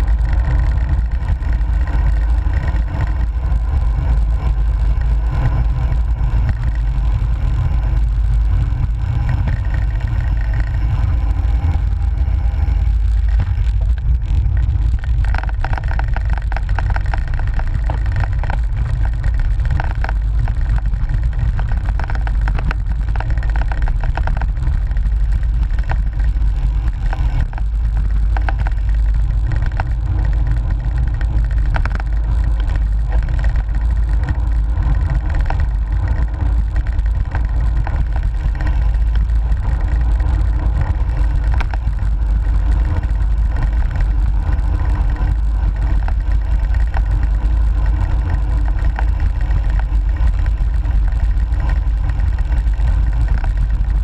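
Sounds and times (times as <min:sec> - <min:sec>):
rapid rattling clicks: 0:00.0 - 0:54.0
tyre and road noise: 0:00.0 - 0:54.0
wind buffeting microphone: 0:00.0 - 0:54.0.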